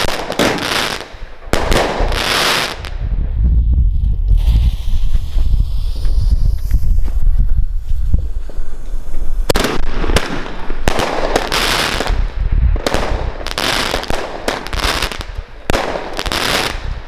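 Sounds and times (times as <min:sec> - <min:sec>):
fireworks launch shots: 0:00.0 - 0:03.1, 0:03.9 - 0:17.0
crackling firework bursts: 0:00.0 - 0:17.0.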